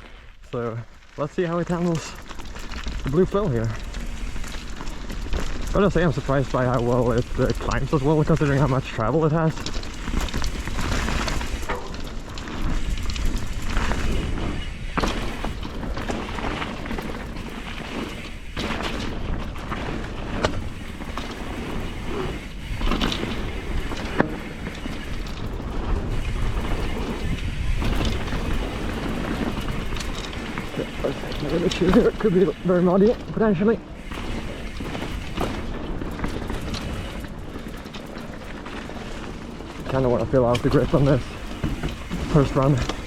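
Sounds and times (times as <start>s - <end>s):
tyres and wind rumble: 0.0s - 43.0s
bike knocks and rattles: 1.5s - 43.0s.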